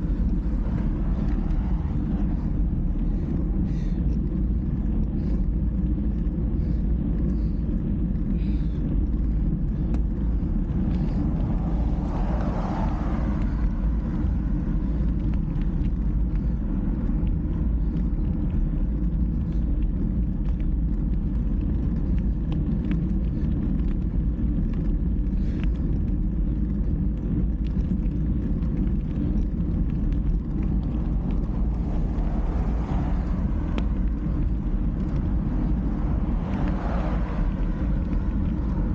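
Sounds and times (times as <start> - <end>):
road noise: 0.0 - 38.9
wind rumble: 0.0 - 38.9.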